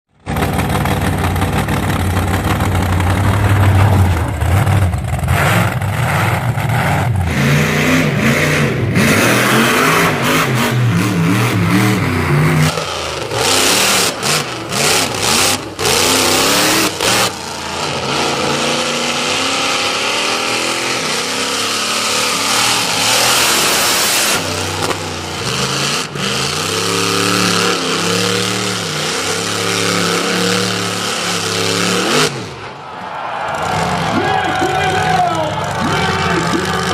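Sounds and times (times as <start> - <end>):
car engine revving: 0.2 - 36.9.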